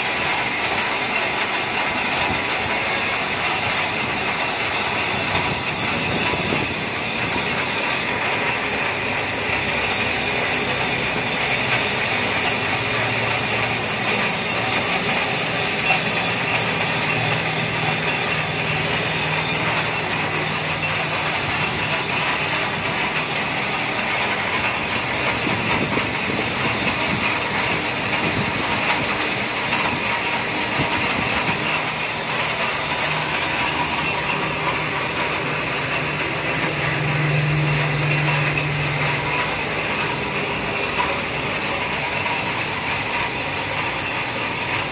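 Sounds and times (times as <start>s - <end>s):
lathe motor hum: 0.0s - 44.9s
lathe tool cutting metal: 0.0s - 44.9s.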